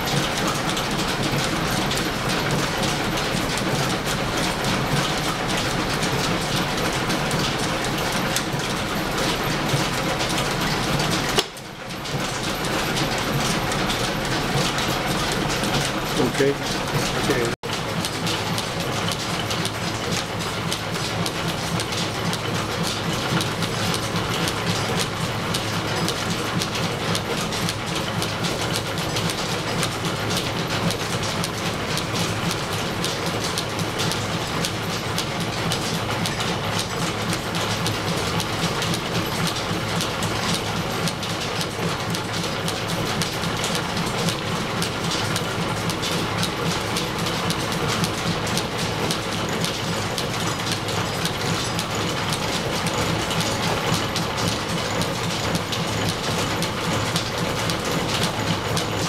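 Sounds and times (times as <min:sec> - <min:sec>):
milling machine clattering: 0:00.0 - 0:59.0.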